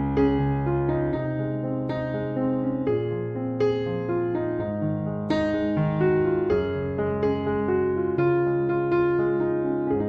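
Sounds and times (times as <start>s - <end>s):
electric piano playing: 0.0s - 10.0s.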